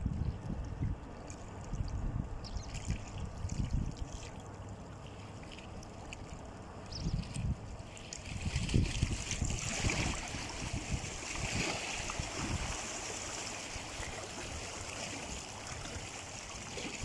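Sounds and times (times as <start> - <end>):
wind on microphone: 0.0 - 4.3, 6.9 - 17.0
waves lapping at bank: 0.0 - 17.0.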